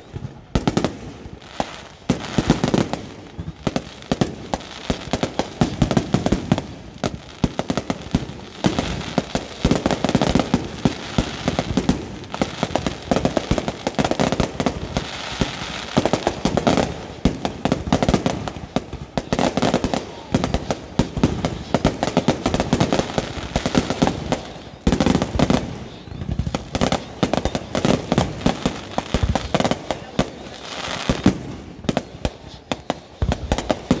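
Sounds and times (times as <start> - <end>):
firecrackers popping: 0.0 - 34.0.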